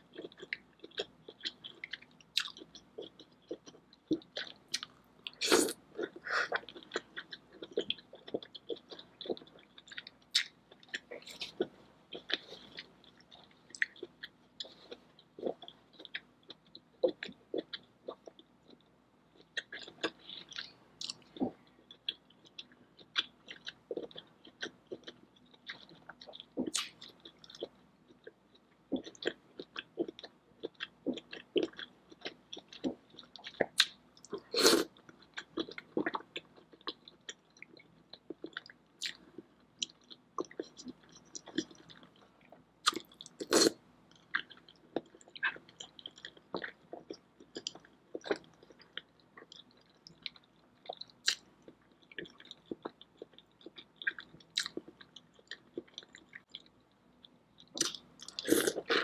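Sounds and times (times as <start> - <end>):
wet chewing and mouth sounds: 0.0 - 59.0.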